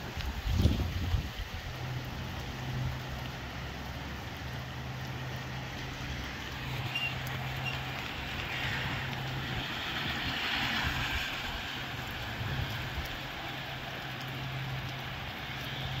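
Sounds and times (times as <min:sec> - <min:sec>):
gusty wind with rain: 0:00.0 - 0:16.0.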